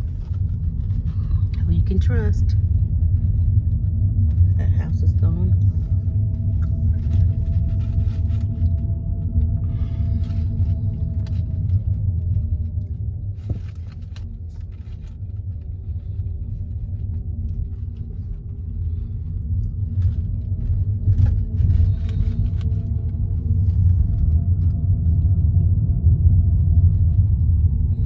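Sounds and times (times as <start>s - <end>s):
car road and engine rumble: 0.0s - 28.0s
faint humming tone: 0.0s - 28.0s.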